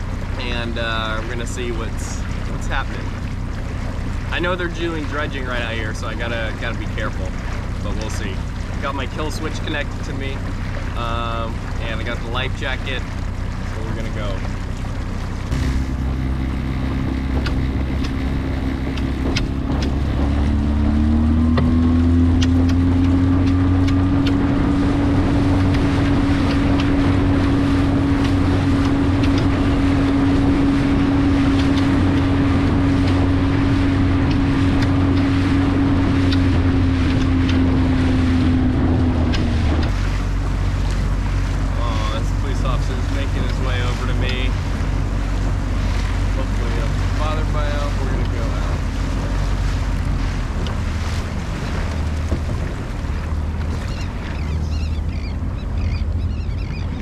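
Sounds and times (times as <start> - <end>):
outboard motor running: 0.0 - 57.0
wind buffeting microphone: 0.0 - 57.0.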